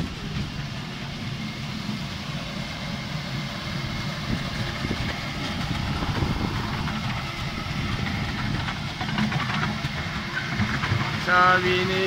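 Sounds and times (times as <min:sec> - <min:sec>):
miniature train engine hum: 0:00.0 - 0:12.0
wheel and rail noise: 0:00.0 - 0:12.0.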